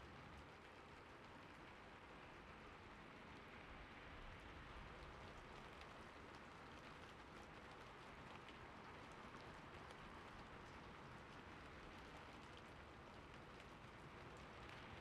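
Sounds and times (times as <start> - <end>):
gentle rain: 0.0 - 15.0.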